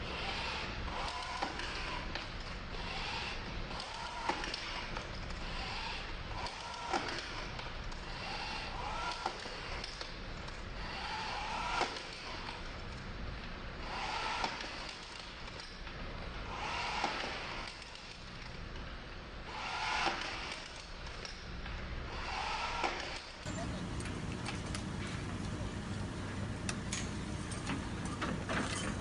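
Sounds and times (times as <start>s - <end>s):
rebar tying tool whirring: 0.0s - 25.4s.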